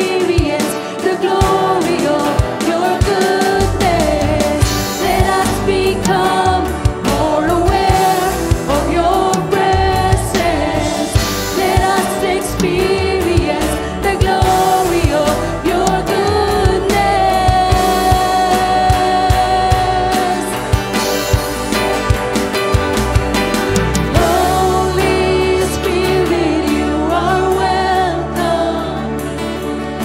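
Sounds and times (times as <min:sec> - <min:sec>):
voices singing: 0:00.0 - 0:20.8, 0:23.7 - 0:30.0
band with bass and drums: 0:00.0 - 0:30.0.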